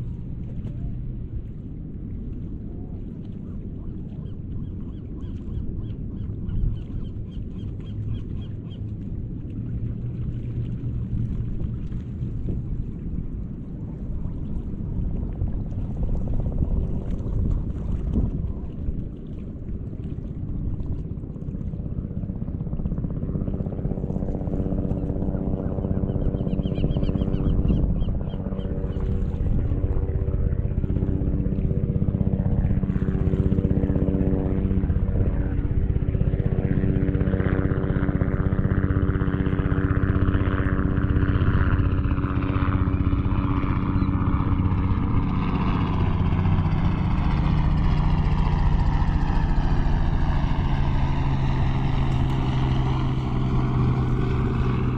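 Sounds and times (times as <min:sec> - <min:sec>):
motorboat engine humming: 0:00.0 - 0:54.9.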